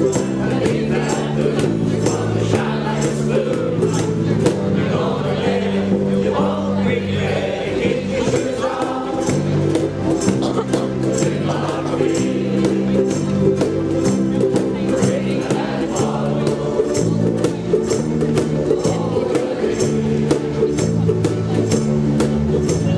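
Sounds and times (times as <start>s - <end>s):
group singing: 0.0s - 22.9s
ukulele strumming: 0.0s - 22.9s.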